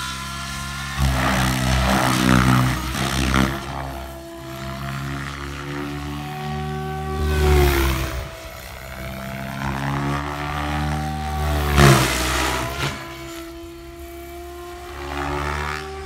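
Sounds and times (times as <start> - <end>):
rc helicopter motor and rotor whine: 0.0 - 16.0.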